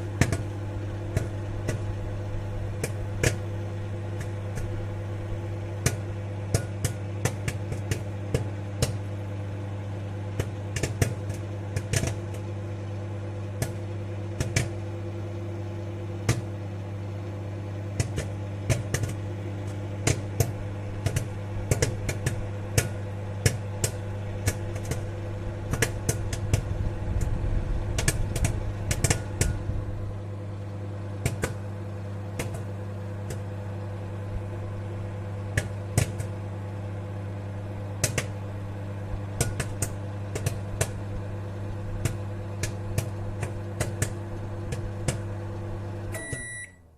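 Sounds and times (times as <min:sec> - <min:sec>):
popcorn popping: 0:00.0 - 0:30.2, 0:30.8 - 0:45.6
microwave oven hum: 0:00.0 - 0:46.9.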